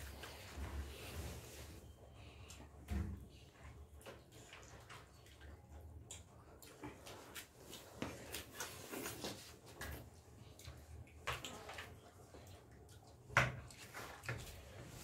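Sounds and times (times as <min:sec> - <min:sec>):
soft chewing: 0:00.0 - 0:15.0.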